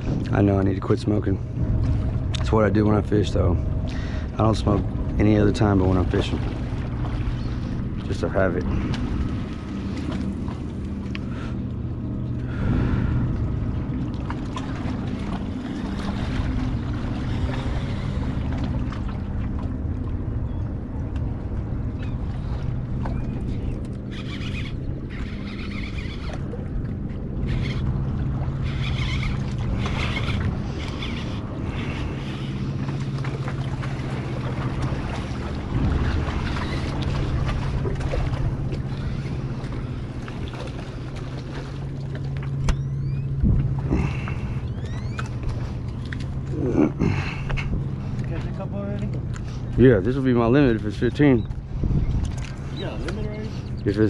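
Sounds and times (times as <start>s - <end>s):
boat engine droning: 0.0s - 54.0s
wind buffeting microphone: 0.0s - 54.0s.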